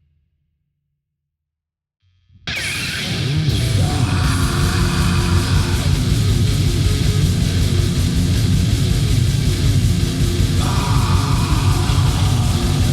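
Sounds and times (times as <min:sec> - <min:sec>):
heavy metal with distorted guitars: 0:02.5 - 0:12.9.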